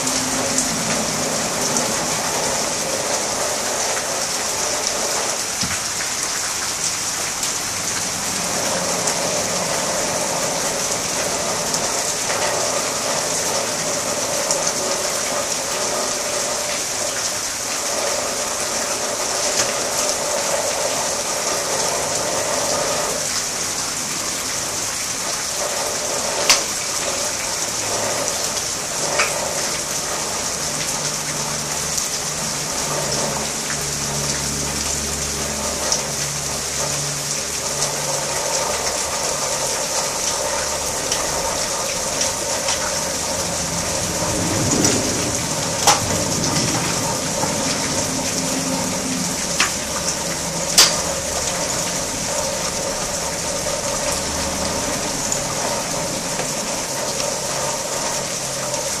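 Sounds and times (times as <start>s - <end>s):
rain on plants and ground: 0.0s - 59.0s.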